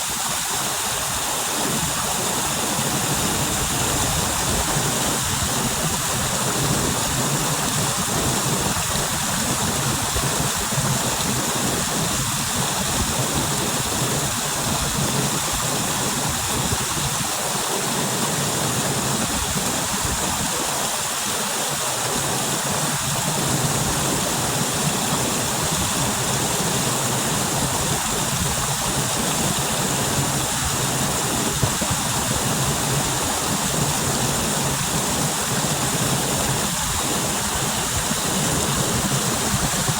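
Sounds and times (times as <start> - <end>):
waterfall and stream splashing: 0.0 - 39.9.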